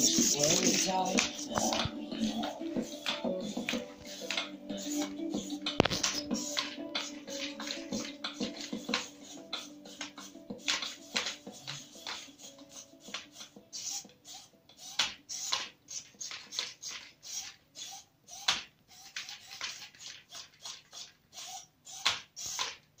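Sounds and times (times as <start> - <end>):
toy robot servos whirring: 0.0 - 23.0.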